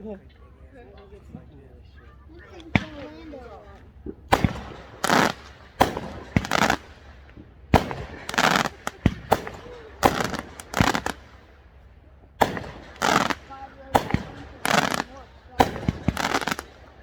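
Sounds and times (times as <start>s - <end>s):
fireworks bangs: 2.5s - 11.8s, 12.4s - 17.0s
fireworks crackling: 2.5s - 17.0s.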